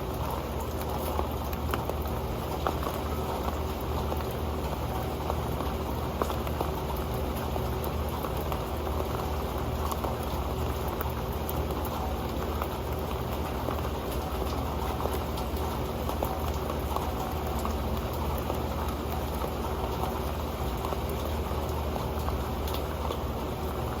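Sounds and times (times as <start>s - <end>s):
rain pattering on a pan: 0.0s - 24.0s.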